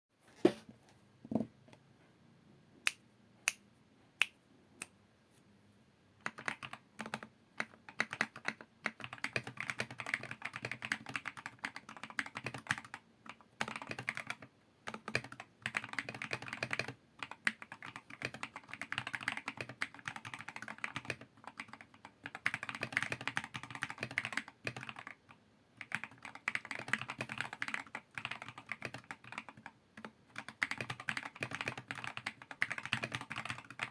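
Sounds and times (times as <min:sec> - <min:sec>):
mechanical keyboard typing: 0:06.2 - 0:33.9.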